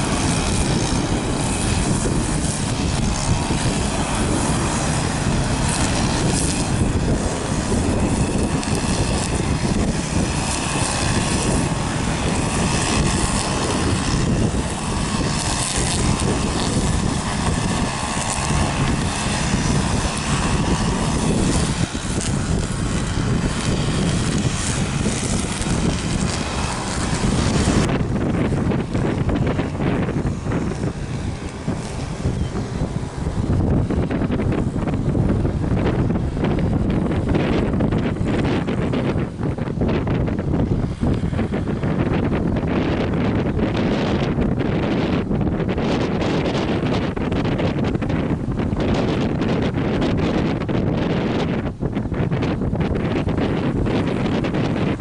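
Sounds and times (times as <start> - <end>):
jet engines running: 0.0 - 55.0
wind buffeting microphone: 0.0 - 55.0.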